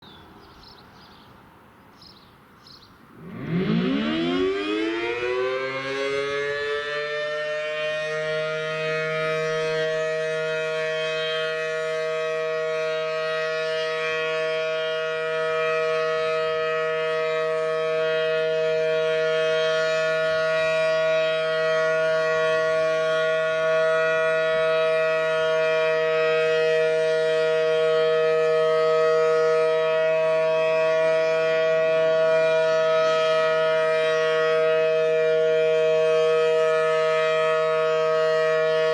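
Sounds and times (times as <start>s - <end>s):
warning siren wailing: 3.1s - 38.9s.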